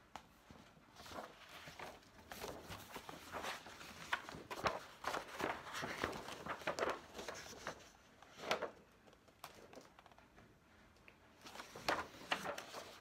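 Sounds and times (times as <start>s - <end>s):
book pages turning: 0.2s - 10.4s, 11.4s - 13.0s.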